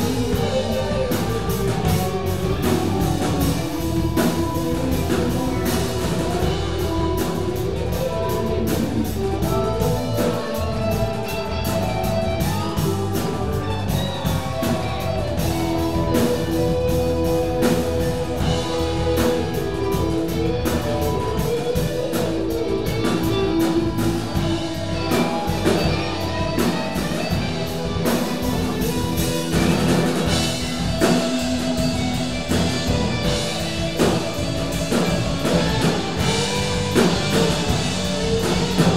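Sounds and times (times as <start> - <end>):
drum kit beat: 0.0 - 38.9
electric bass: 0.0 - 38.9
electric guitars: 0.0 - 38.9
keyboard: 0.0 - 38.9.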